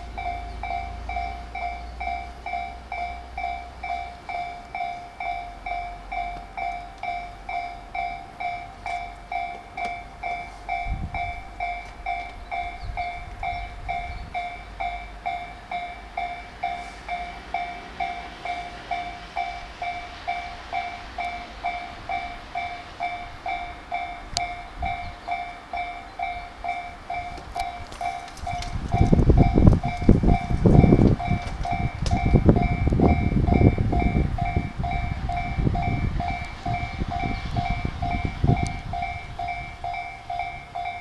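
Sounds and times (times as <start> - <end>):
level crossing bell clanging: 0.0 - 41.0.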